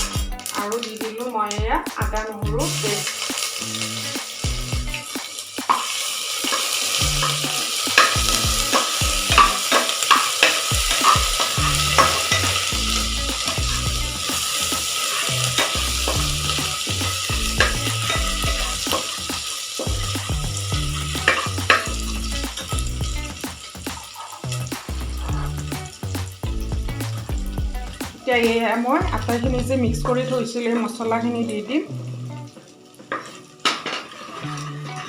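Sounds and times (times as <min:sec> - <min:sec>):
paste sizzling in a pot: 0:02.6 - 0:29.4, 0:31.6 - 0:35.0.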